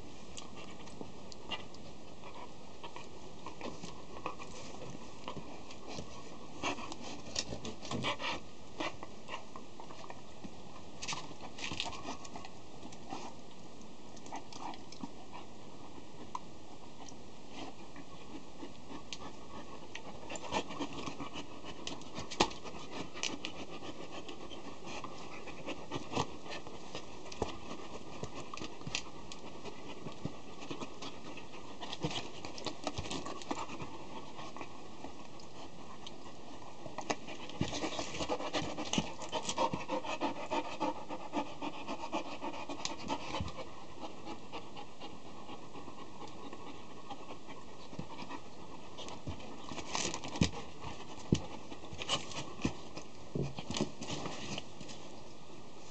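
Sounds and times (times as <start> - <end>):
dog panting: 0.4 - 10.2, 14.2 - 54.6.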